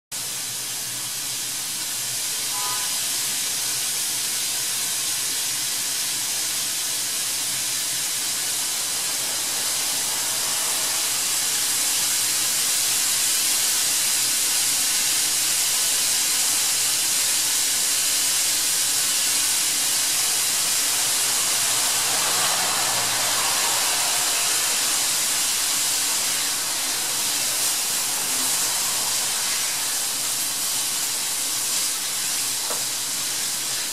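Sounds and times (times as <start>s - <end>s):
steady high hiss: 0.2s - 33.9s.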